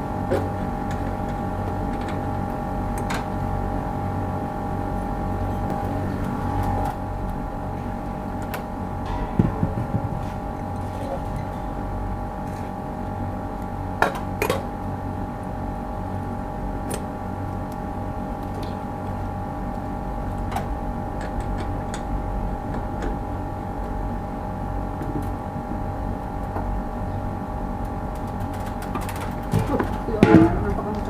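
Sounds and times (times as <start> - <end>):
machine hum with whine: 0.0 - 31.0.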